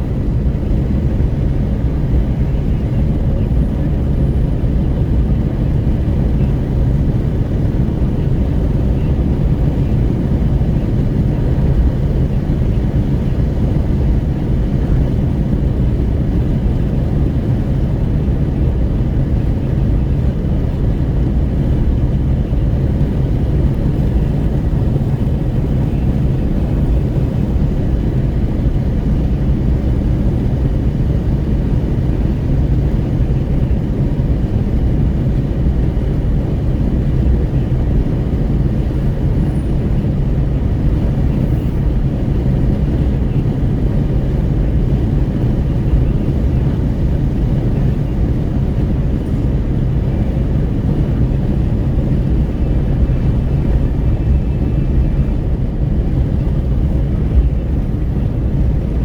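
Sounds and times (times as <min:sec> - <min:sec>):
wind buffeting open car window: 0:00.1 - 0:59.0.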